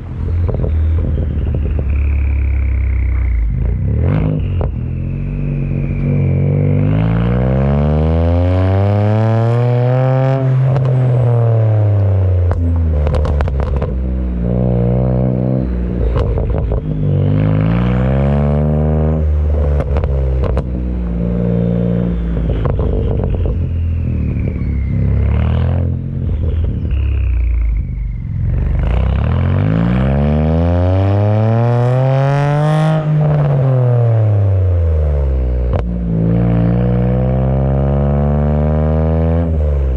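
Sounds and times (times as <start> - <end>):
exhaust cracks: 0.0 - 7.6, 9.5 - 30.3, 33.0 - 37.4
car engine revving: 0.0 - 39.9.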